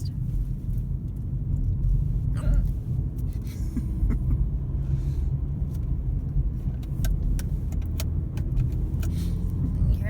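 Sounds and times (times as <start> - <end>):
car road rumble: 0.0 - 10.0.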